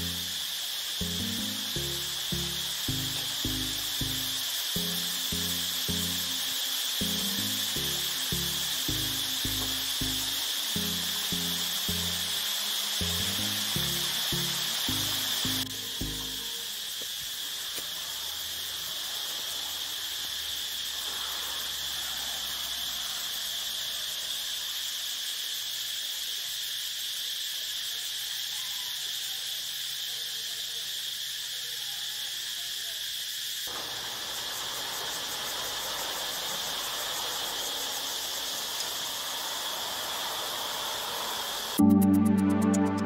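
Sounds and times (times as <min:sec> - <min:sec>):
insect chorus shrilling: 0:00.0 - 0:41.8
faint hiss: 0:00.0 - 0:43.0.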